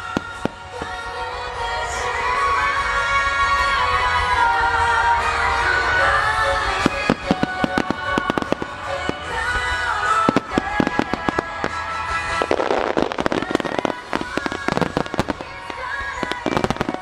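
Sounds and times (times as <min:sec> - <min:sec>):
fireworks bangs: 0:00.0 - 0:02.6, 0:03.4 - 0:17.0
music: 0:00.0 - 0:17.0.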